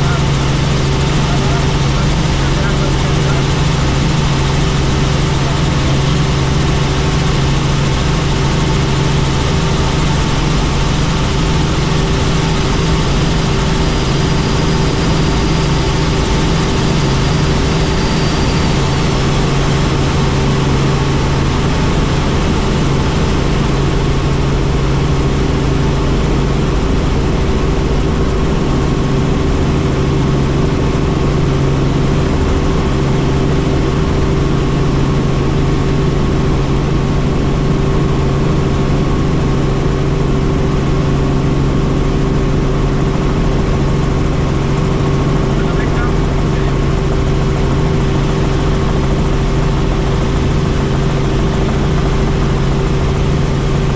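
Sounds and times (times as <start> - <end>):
helicopter drone: 0.0 - 53.9.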